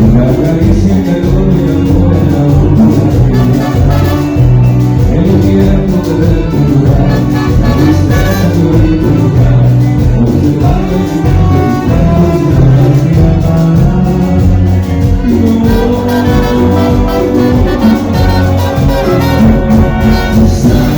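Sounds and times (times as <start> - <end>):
salsa dance music: 0.0 - 20.9.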